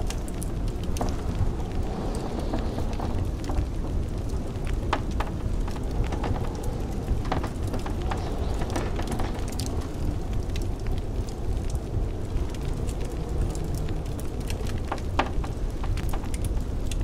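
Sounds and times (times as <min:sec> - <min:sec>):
blizzard wind rumbling: 0:00.0 - 0:17.0
wood fire crackling: 0:00.0 - 0:17.0.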